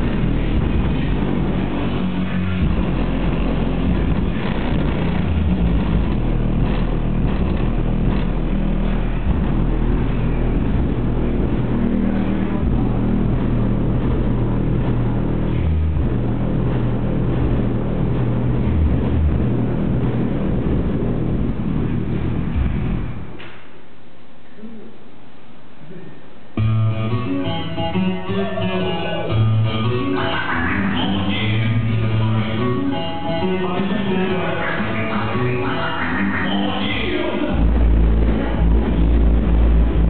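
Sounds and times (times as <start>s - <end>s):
loud music with heavy bass: 0.0s - 23.5s, 26.6s - 40.0s.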